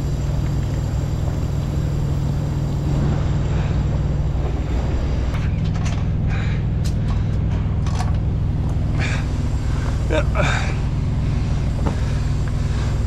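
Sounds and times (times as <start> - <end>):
diesel truck engine humming: 0.0 - 13.0.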